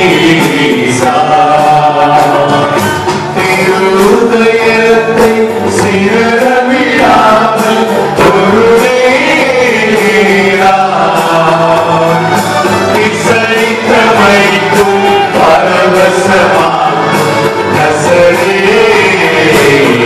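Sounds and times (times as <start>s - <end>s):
instrumental accompaniment: 0.0s - 20.0s
light percussion: 0.0s - 20.0s
men singing a hymn: 0.0s - 20.0s.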